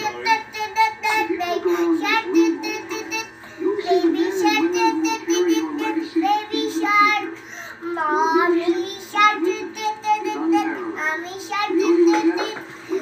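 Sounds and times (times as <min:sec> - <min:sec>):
child singing: 0:00.0 - 0:12.7.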